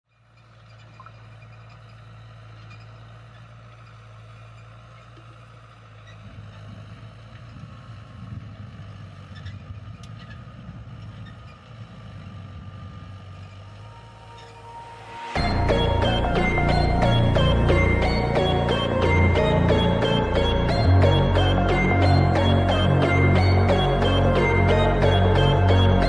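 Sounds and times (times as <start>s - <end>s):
low mechanical hum: 0.1s - 26.0s.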